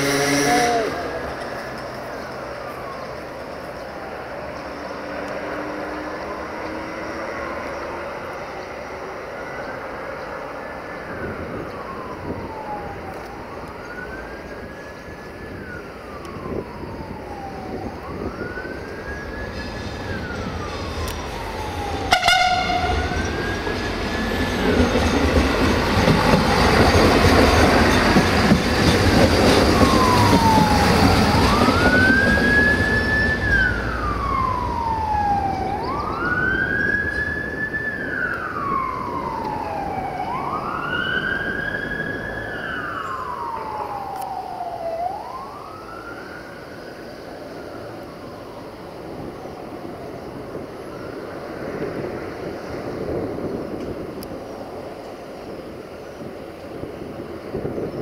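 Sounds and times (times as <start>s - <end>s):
emergency siren wailing: 0.0s - 57.9s
train rumbling past: 0.0s - 58.0s.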